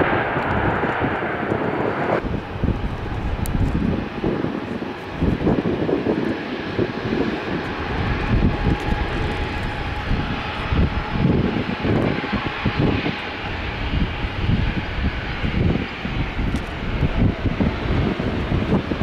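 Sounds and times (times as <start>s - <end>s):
jet airliner engines running: 0.0s - 19.0s.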